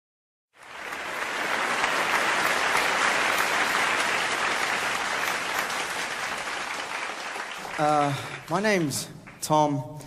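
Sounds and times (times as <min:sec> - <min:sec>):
audience applauding: 0:00.6 - 0:09.7.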